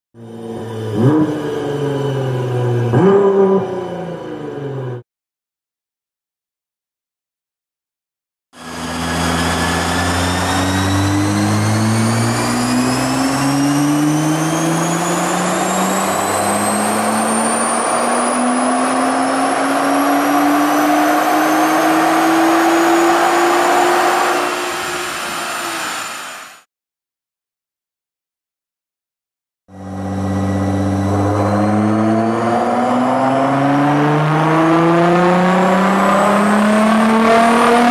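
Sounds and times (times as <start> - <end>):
car engine at full throttle: 0.2 - 5.0, 8.6 - 26.6, 29.7 - 37.9
high turbo whine: 0.2 - 5.0, 8.6 - 26.7, 29.7 - 37.9.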